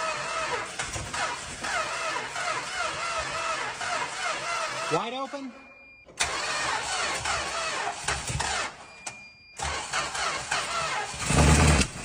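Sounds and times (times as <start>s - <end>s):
engine cranking by starter: 0.0s - 12.0s.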